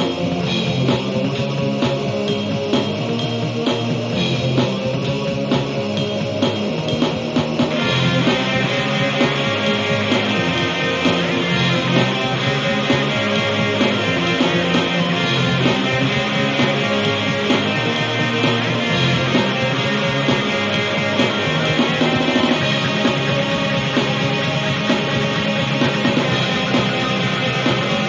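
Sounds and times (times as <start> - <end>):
bass line: 0.0 - 28.0
guitar-driven rock music: 0.0 - 28.0.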